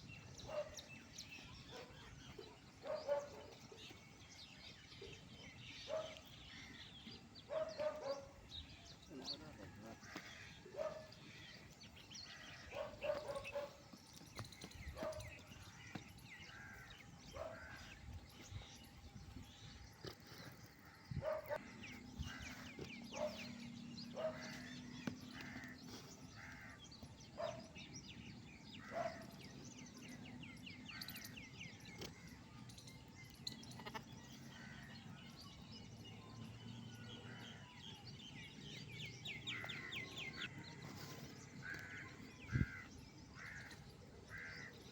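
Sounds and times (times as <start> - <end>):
birds twittering: 0.0 - 44.9.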